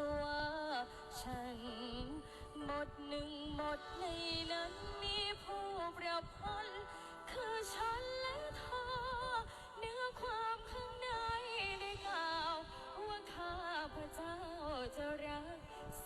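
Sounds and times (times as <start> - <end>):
woman singing with vibrato: 0.0 - 16.0.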